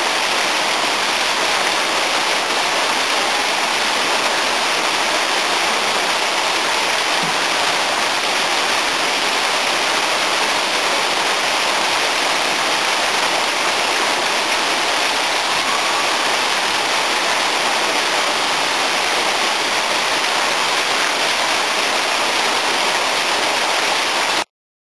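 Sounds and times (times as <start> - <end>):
running water rushing: 0.0 - 24.5.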